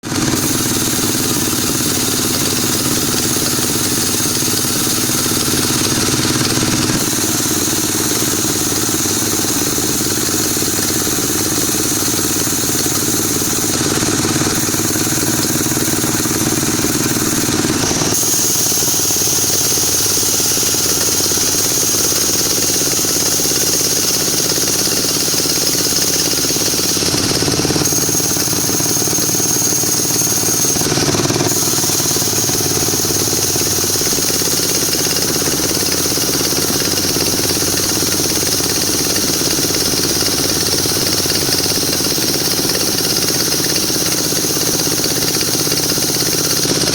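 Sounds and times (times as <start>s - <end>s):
power saw cutting wood: 0.0s - 46.9s.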